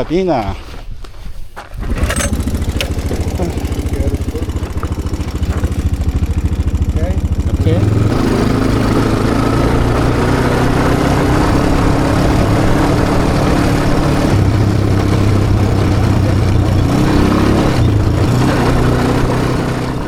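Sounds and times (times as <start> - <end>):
quad bike engine running: 1.8 - 20.0.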